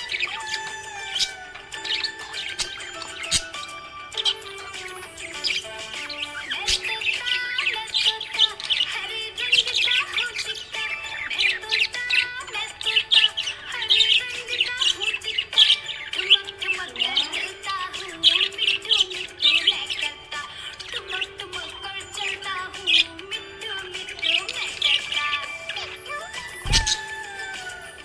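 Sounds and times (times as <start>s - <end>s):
background music: 0.0s - 28.0s
budgerigars chirping and warbling: 0.0s - 28.0s.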